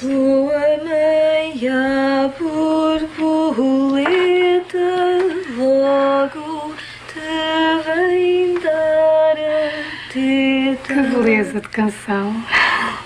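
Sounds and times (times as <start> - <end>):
woman singing a lullaby: 0.0 - 13.0.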